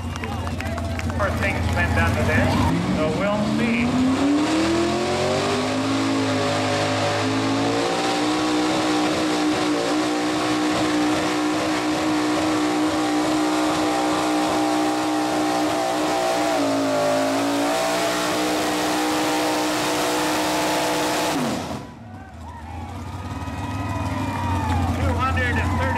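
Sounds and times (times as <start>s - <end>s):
truck engine at high revs: 0.0s - 25.9s.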